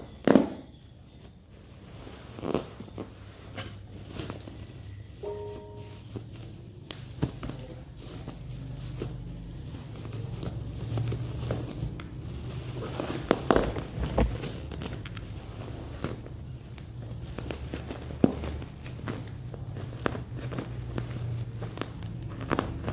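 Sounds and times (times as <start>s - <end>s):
bubble wrap crinkling: 0.0s - 22.9s
bubble wrap clicks and snaps: 3.7s - 22.9s.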